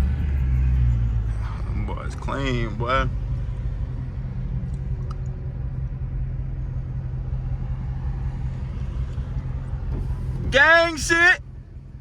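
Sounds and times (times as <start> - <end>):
car engine drone in cabin: 0.0 - 12.0.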